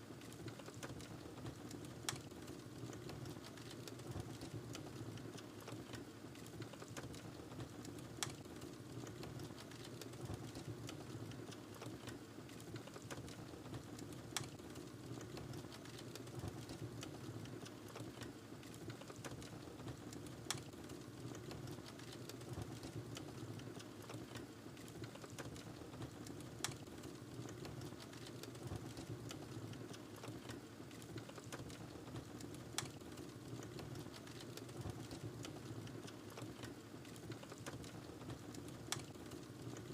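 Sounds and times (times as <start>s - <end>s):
wood fire crackling: 0.2s - 39.9s.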